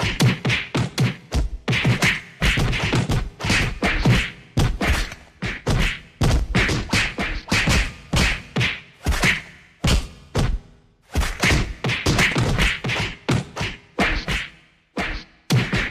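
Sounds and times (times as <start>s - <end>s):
punch hits: 0.0s - 14.5s.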